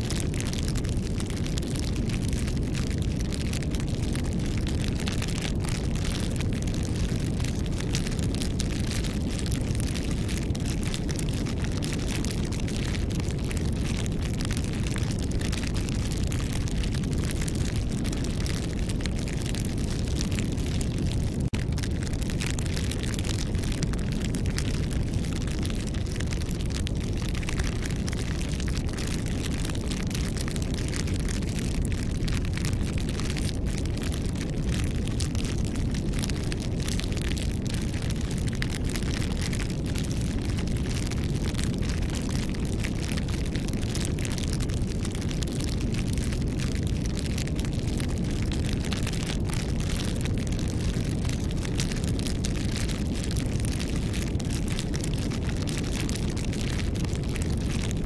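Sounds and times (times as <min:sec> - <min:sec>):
fire crackles and pops: 0:00.0 - 0:58.0
low rumble of flames: 0:00.0 - 0:58.0.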